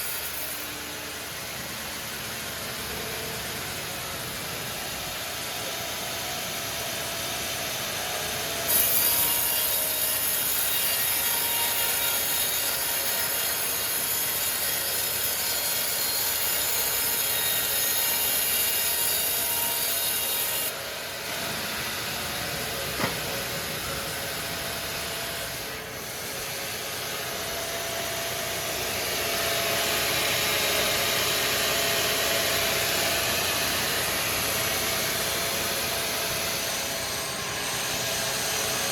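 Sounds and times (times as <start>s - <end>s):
sawmill saw cutting log: 0.0s - 1.1s, 5.1s - 38.9s.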